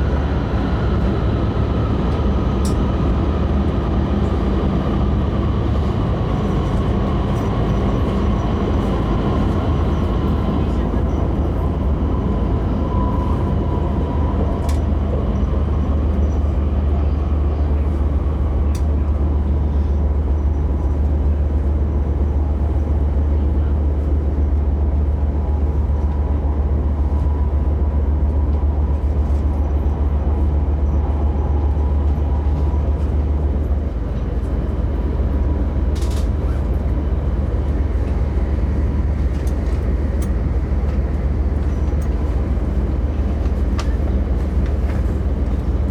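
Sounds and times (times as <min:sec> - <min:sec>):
train interior low rumble: 0:00.0 - 0:45.9.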